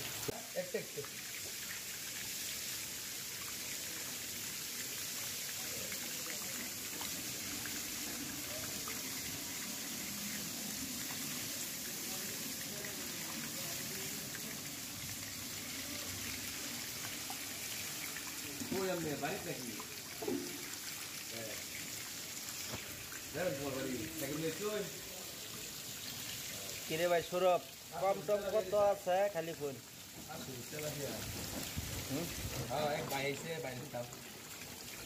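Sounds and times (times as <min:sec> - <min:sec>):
water trickling into a tank: 0:00.0 - 0:35.0.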